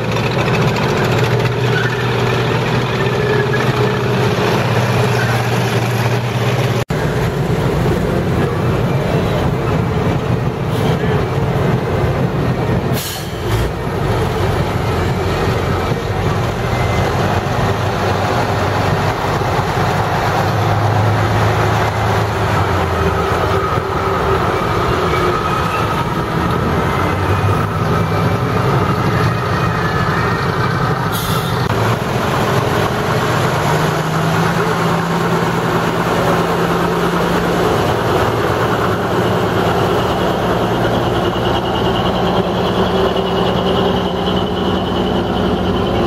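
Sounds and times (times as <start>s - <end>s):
trucks driving past: 0.0s - 46.0s.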